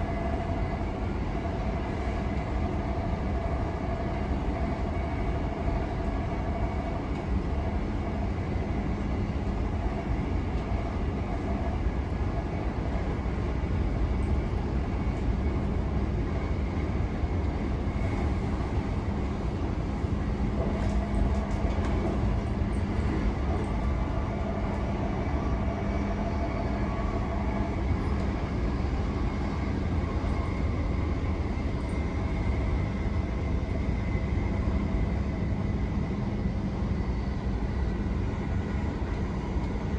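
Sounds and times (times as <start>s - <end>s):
faint motor whine: 0.0s - 39.9s
train wheels rumbling on track: 0.0s - 39.9s.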